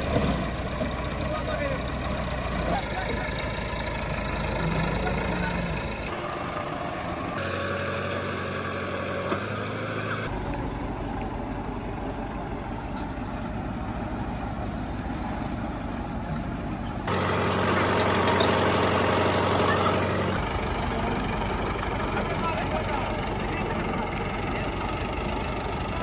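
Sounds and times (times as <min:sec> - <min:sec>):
heavy diesel engines idling: 0:00.0 - 0:26.0.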